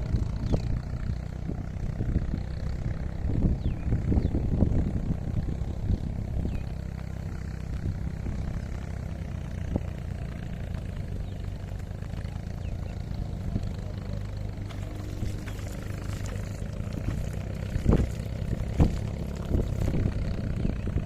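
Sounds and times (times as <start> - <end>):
small engine humming: 0.0 - 21.0.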